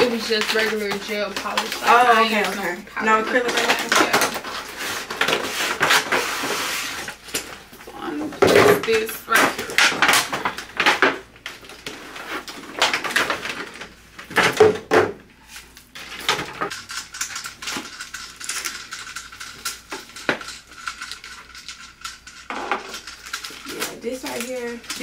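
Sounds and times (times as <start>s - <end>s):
plastic packaging rustling: 0.0s - 14.7s, 15.3s - 25.0s.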